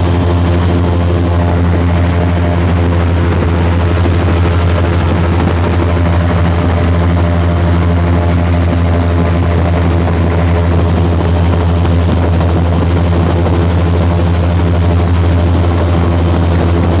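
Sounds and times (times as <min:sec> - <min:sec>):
airboat engine and propeller drone: 0:00.0 - 0:17.0.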